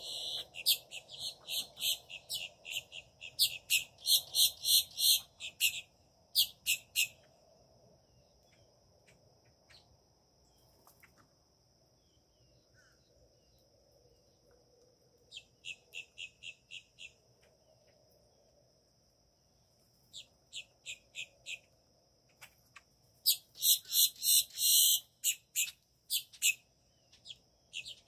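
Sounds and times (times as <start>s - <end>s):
insects high-pitched tone: 0.0s - 28.0s.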